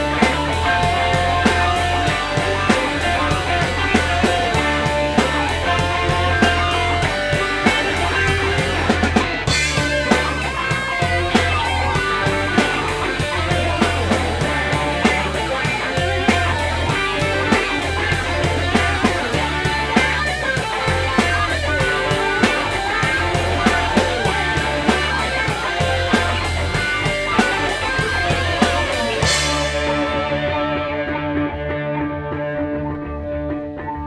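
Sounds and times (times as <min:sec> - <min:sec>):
drum kit beat: 0:00.0 - 0:31.1
electric guitar: 0:00.0 - 0:34.0.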